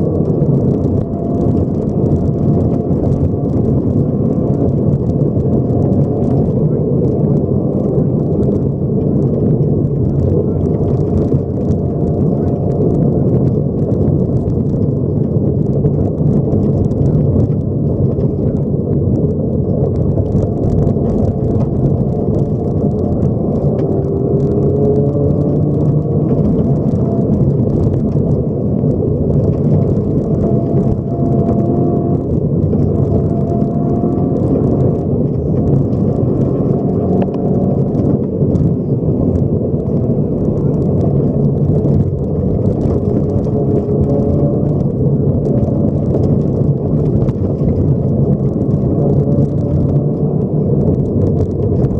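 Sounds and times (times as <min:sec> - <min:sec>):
car engine and road rumble: 0:00.0 - 0:51.9
gravel ticking against car: 0:00.0 - 0:51.9.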